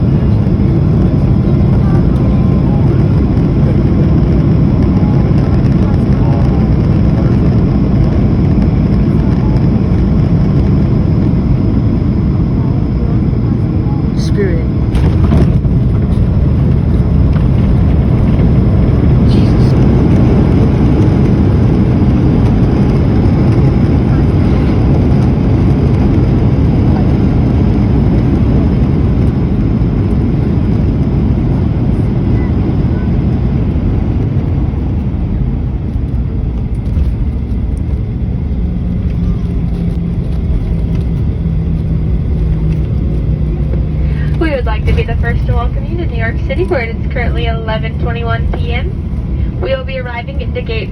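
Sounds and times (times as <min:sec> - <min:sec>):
airplane cabin engine rumble: 0:00.0 - 0:50.9
steady low hum: 0:00.0 - 0:50.9.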